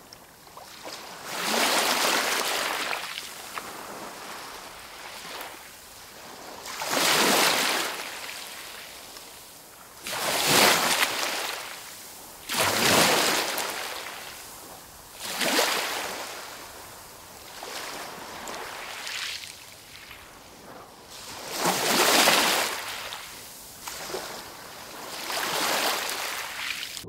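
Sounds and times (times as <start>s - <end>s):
sea waves washing onto shore: 0.0s - 27.0s.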